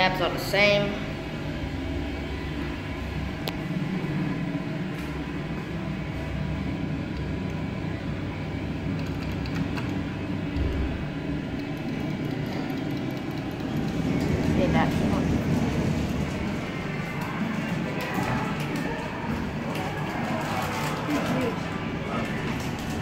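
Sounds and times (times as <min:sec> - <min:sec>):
elevator cab rumble and hum: 0:00.0 - 0:23.0.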